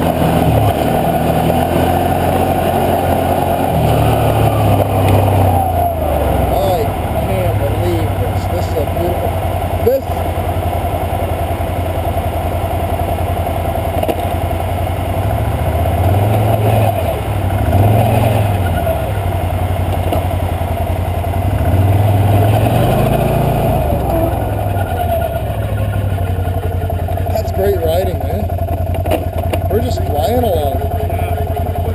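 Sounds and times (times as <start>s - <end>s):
atv engine revving: 0.0s - 31.9s.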